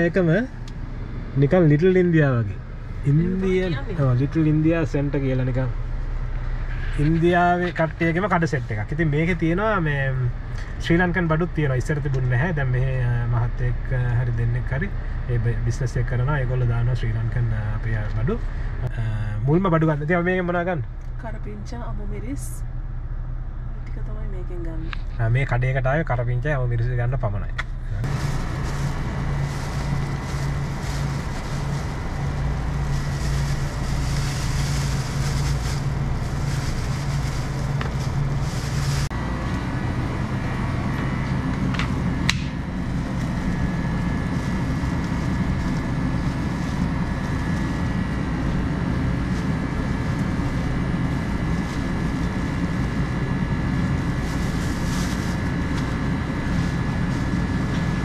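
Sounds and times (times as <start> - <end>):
faint hum: 0.0 - 58.0
motor vehicle rumble: 0.0 - 58.0.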